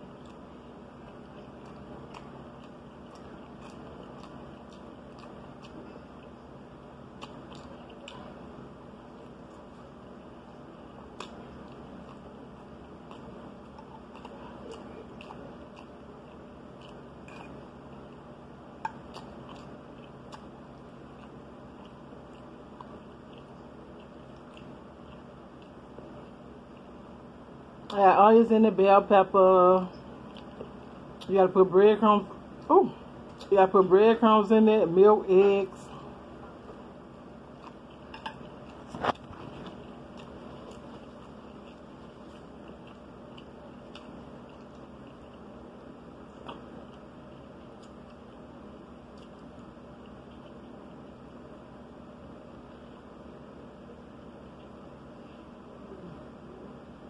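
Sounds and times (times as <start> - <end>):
person chewing food: 0.0 - 28.0, 30.0 - 31.3, 36.0 - 51.8, 52.4 - 56.6
faint room hum: 0.0 - 57.0.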